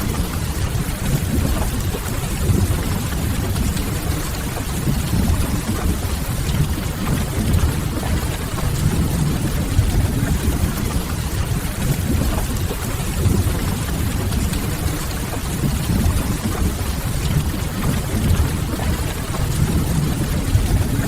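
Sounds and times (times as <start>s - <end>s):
rain on a window: 0.0s - 21.0s.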